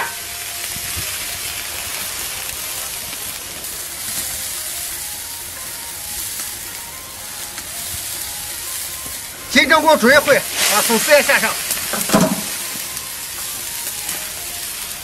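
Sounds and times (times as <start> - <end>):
soup boiling with bubbling hiss: 0.0 - 15.0.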